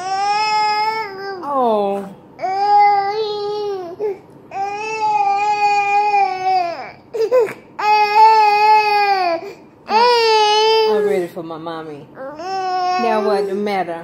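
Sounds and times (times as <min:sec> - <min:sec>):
toddler wailing: 0:00.0 - 0:01.5, 0:02.4 - 0:11.1, 0:12.2 - 0:13.4.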